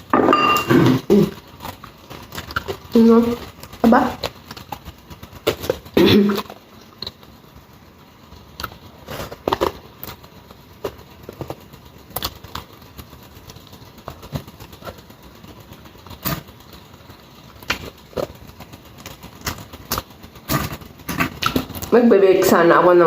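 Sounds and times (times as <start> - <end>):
chewing crunches: 0.7 - 7.3, 8.3 - 21.9.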